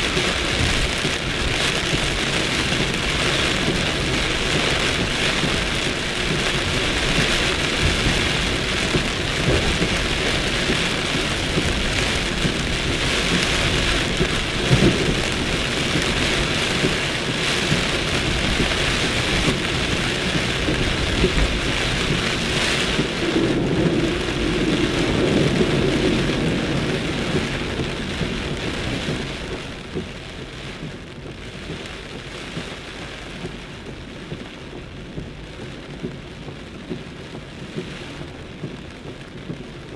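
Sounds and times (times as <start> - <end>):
thunder rumbling: 0.0 - 39.9
torrential rain pouring: 0.0 - 39.9.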